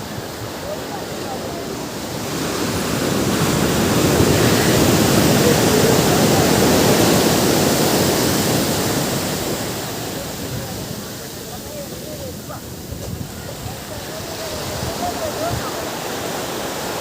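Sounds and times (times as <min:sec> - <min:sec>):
ocean wave washing: 0:00.0 - 0:17.0.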